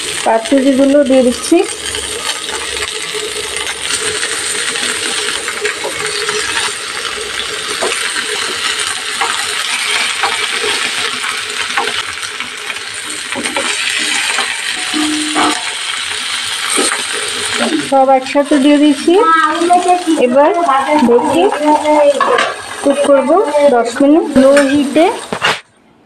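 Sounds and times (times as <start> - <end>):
oil sizzling and crackling: 0.0 - 25.5.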